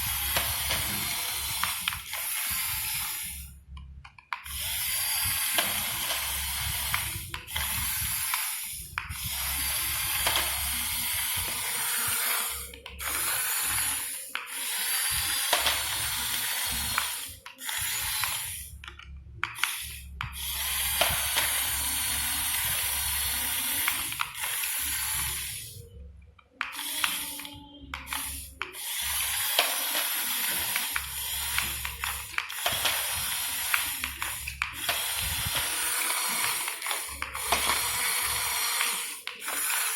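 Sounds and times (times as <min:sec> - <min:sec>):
electric motors whirring: 0:00.0 - 0:03.6, 0:04.4 - 0:26.0, 0:26.6 - 0:39.9.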